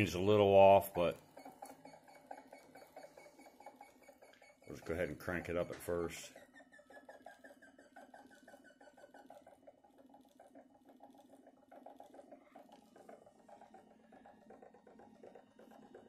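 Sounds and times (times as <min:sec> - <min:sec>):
rapid even motor ticking: 0:00.0 - 0:16.0.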